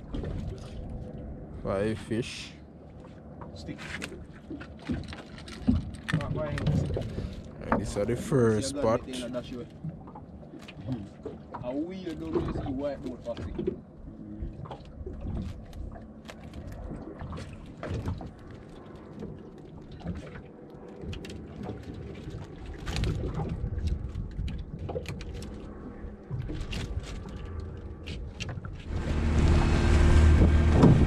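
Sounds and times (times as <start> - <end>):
boat engine running: 0.0 - 31.0
low rumble of water: 0.0 - 31.0.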